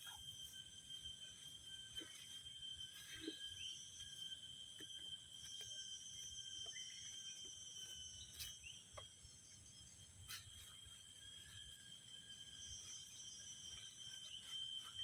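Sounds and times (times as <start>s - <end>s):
faint drone of insects: 0.0s - 15.0s.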